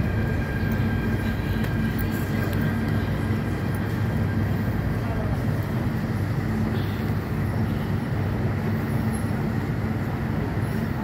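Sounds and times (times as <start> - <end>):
electric train rumbling into station: 0.0 - 11.0.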